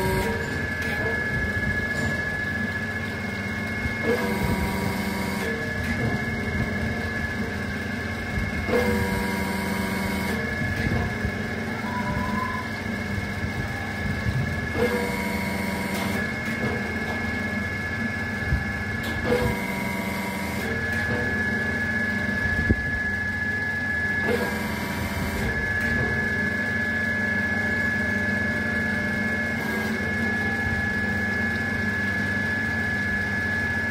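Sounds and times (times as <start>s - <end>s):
hydraulic pump hum and whine: 0.0s - 33.9s.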